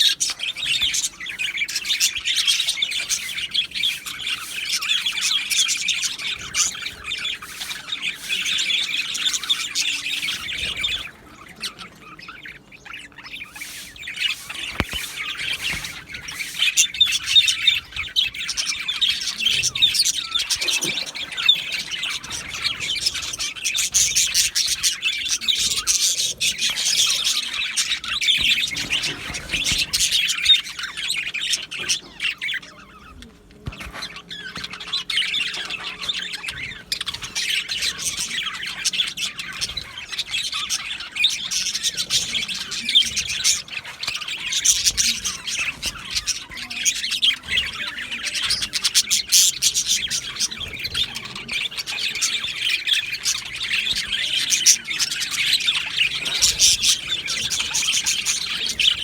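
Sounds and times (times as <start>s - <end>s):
budgerigars chattering and squawking: 0.0s - 59.0s.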